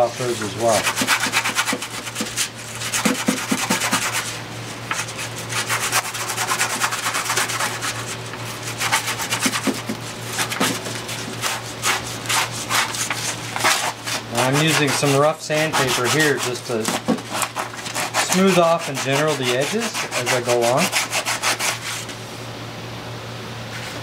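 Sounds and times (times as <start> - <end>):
sandpaper rasping on gear: 0.0 - 22.1
steady low hum: 0.0 - 24.0.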